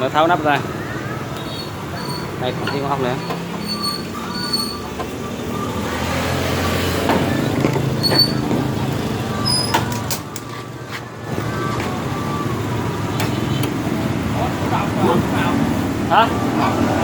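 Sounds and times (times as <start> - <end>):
vehicle engine rumble passing: 1.1 - 17.0.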